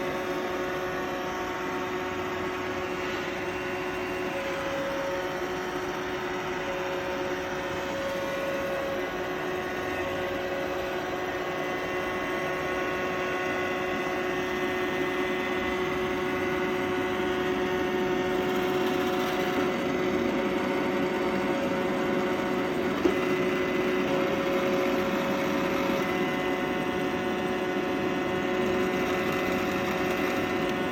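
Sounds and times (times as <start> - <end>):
robot vacuum motors whirring: 0.2 - 30.9.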